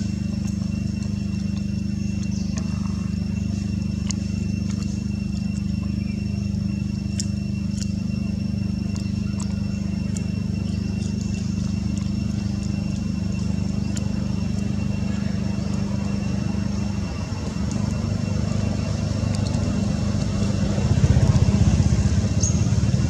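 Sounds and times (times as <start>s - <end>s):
faint high whine: 0.0s - 23.0s
low hum: 0.0s - 23.0s.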